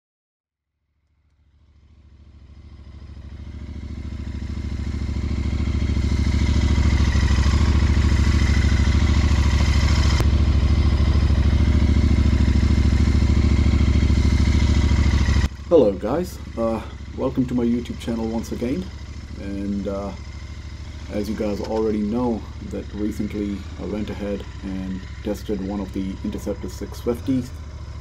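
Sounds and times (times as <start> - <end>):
motorcycle engine idling: 0.8 - 28.0.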